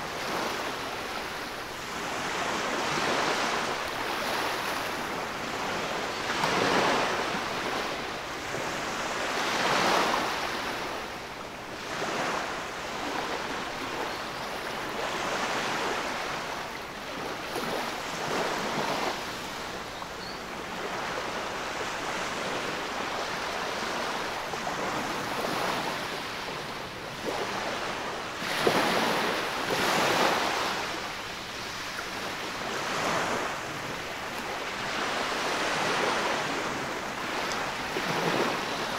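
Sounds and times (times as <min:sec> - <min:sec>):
small waves washing on sand: 0:00.0 - 0:38.9.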